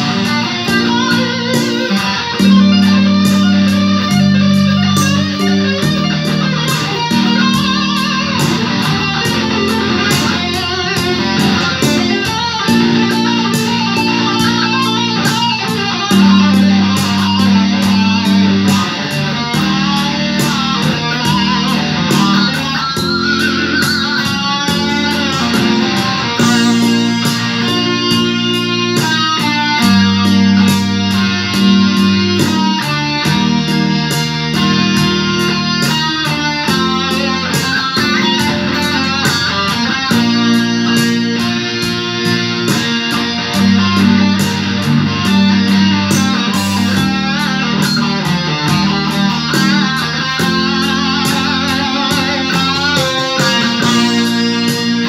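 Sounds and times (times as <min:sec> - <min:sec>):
electric guitar lead: 0:00.0 - 0:55.0
slow rock backing track: 0:00.0 - 0:55.0.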